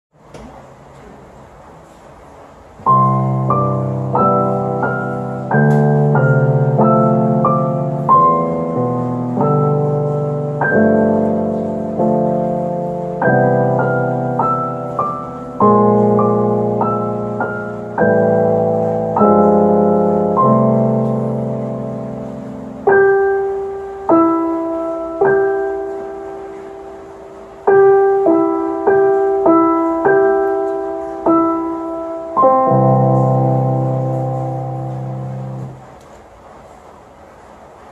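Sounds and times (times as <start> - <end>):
solo piano: 1.8 - 37.9.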